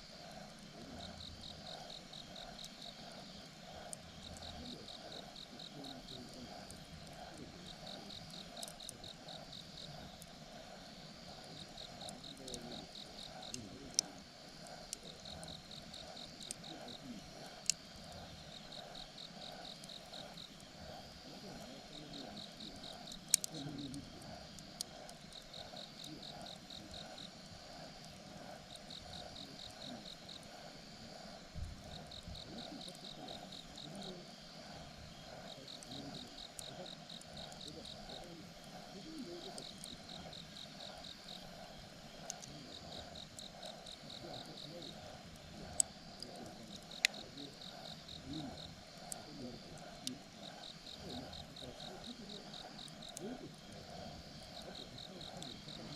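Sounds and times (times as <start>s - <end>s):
campfire crackling: 0.0s - 55.9s
insect chirping: 0.0s - 55.9s.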